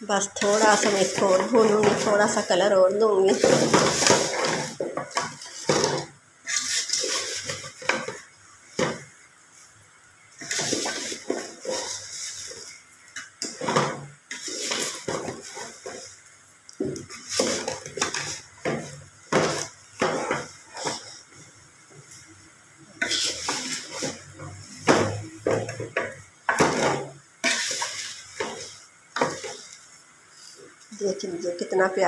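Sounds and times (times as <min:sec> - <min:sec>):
spatula scraping noodles in pot: 0:00.3 - 0:02.6, 0:03.2 - 0:09.1, 0:10.3 - 0:16.2, 0:17.0 - 0:22.2, 0:22.9 - 0:30.0.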